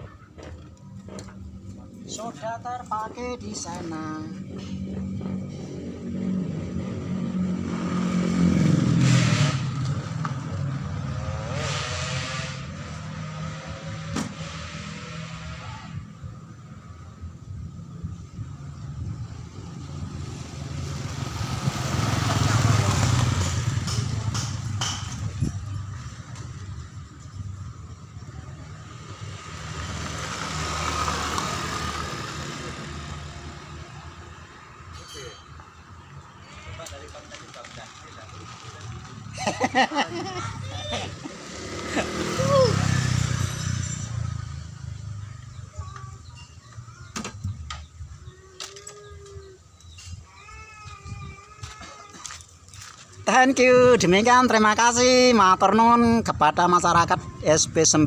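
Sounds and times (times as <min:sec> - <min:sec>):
vehicle engine rumble passing: 0:00.0 - 0:50.6
road noise: 0:00.0 - 0:58.0.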